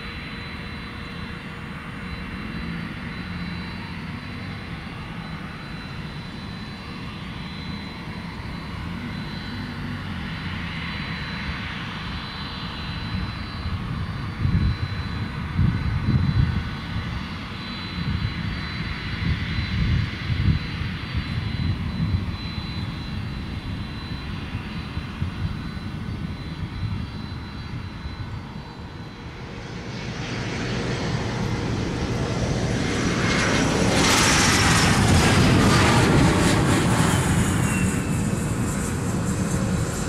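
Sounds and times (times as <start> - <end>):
jet engines rumbling: 0.0 - 40.0
jet engines spooling up: 0.0 - 40.0.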